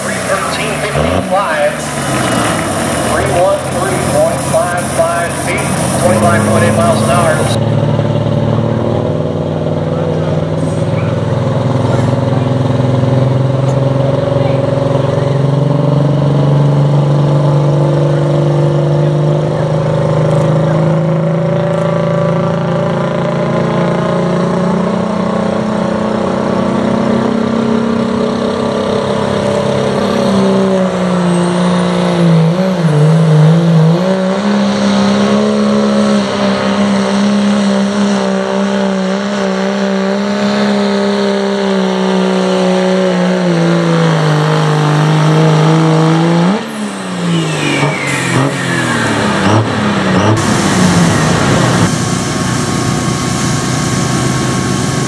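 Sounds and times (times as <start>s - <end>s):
diesel engine under full load: 0.0s - 55.0s.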